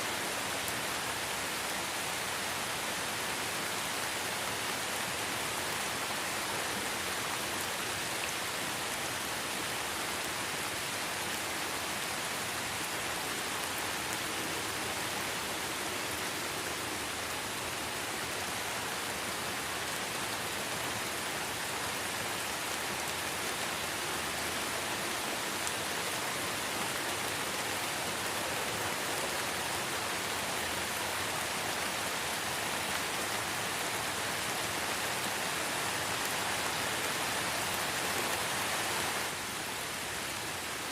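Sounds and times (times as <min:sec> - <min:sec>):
light rain hiss: 0:00.0 - 0:40.9.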